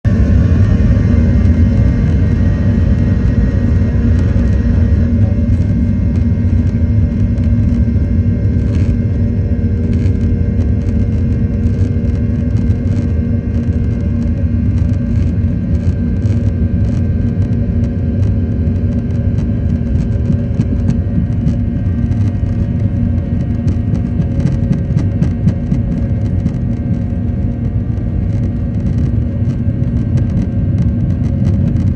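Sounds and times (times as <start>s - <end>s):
airliner engine rumble: 0.0s - 31.9s.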